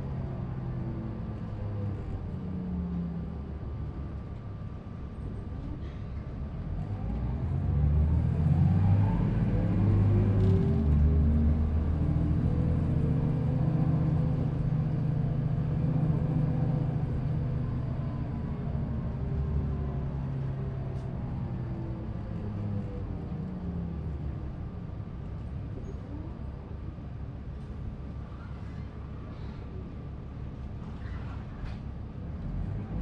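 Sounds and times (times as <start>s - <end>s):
bus diesel engine drone: 0.0s - 33.0s.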